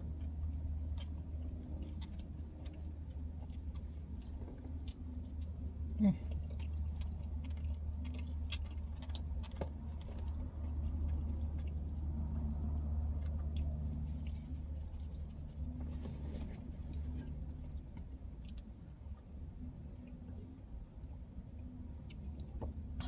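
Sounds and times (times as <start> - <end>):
chewing pizza: 0.0 - 23.0
steady low hum: 0.0 - 23.0.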